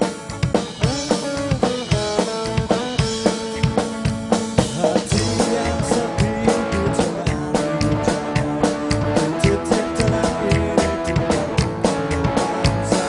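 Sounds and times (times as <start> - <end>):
drum kit beat: 0.0 - 13.0
live rock band playing: 0.0 - 13.0.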